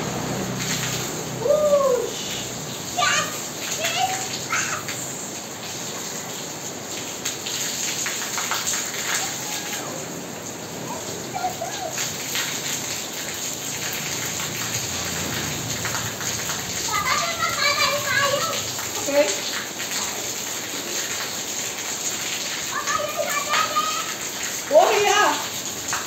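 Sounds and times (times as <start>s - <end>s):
rain splashing on tiles: 0.0s - 26.0s.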